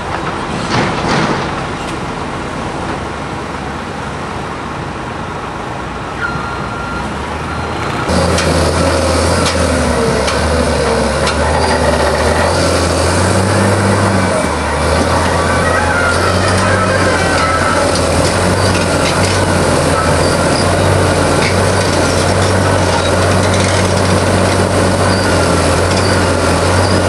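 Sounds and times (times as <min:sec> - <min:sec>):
diesel engines running: 0:00.0 - 0:27.0.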